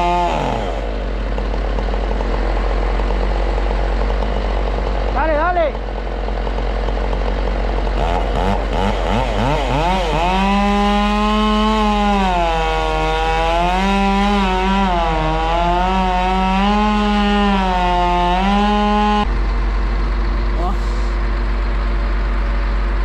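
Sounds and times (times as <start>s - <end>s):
chainsaw revving and cutting: 0.0s - 19.3s.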